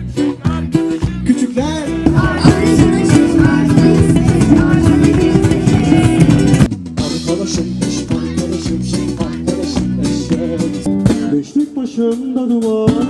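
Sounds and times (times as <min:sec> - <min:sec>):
band music with drums and guitar: 0:00.0 - 0:13.0.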